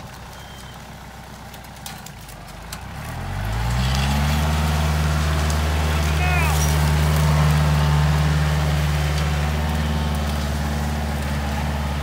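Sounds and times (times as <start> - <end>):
tractor engine idling and revving: 0.0 - 12.0.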